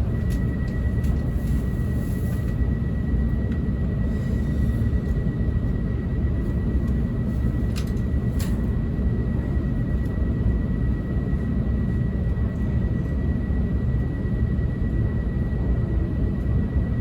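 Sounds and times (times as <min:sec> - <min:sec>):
train cabin low rumble: 0:00.0 - 0:17.0.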